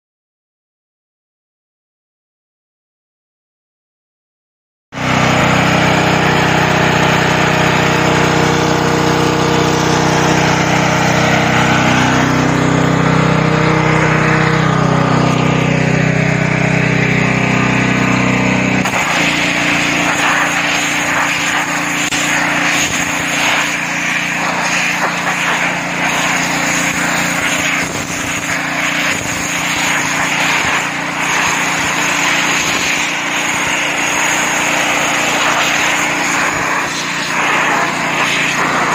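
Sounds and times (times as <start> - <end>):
pressure washer engine running: 4.9 - 38.9
high-pressure water jet hissing: 5.0 - 15.8, 17.2 - 38.9.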